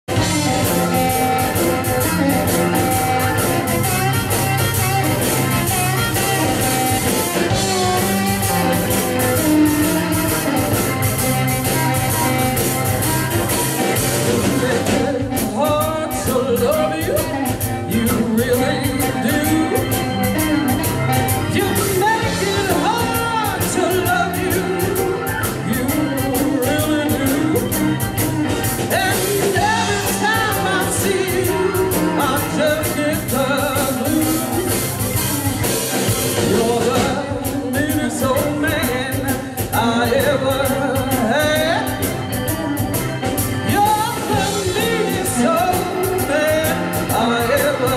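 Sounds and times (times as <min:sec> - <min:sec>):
live blues band playing: 0:00.0 - 0:47.9
amplified harmonica: 0:00.1 - 0:47.9.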